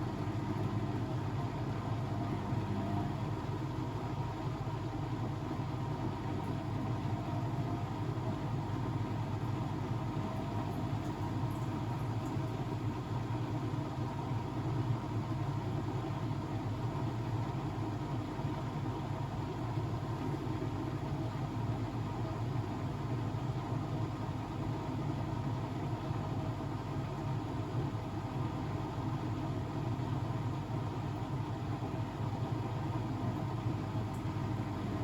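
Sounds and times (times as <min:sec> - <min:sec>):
washing machine running: 0:00.0 - 0:35.0.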